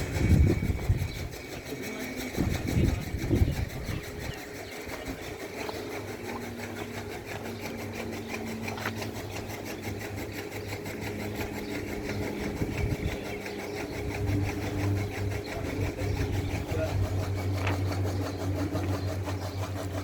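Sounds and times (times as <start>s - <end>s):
small engine running with clatter: 0.0s - 20.0s.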